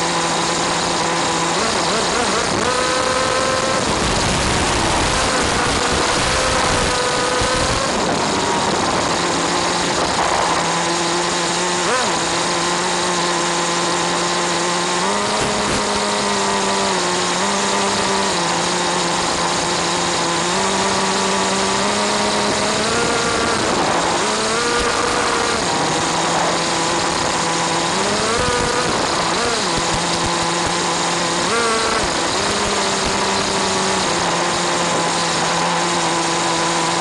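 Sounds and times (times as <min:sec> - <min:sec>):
small two-stroke engine running: 0:00.0 - 0:37.0.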